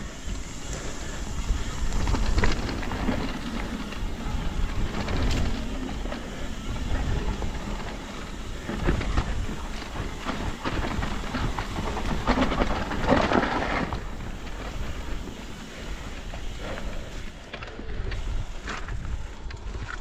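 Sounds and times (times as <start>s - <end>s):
bike rattling and knocking: 0.0s - 20.0s
bike tyres crunching over dirt: 0.0s - 20.0s.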